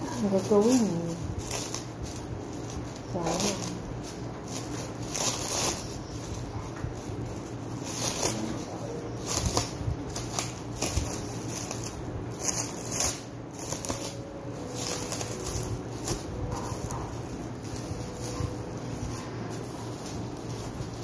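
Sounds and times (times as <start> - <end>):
plastic film crinkling: 0.0 - 21.0.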